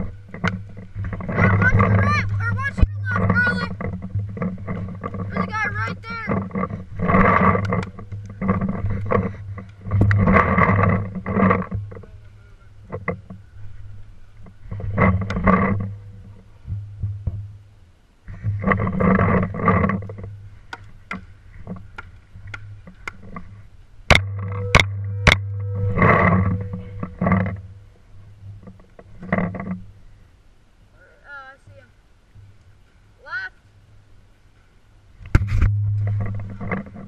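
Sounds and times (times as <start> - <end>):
rustling and handling noise: 0.0 - 30.1.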